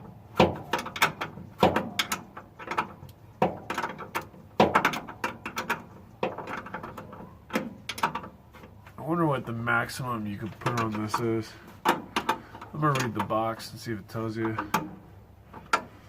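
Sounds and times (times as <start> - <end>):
hand tools clicking and clanking: 0.0 - 16.0.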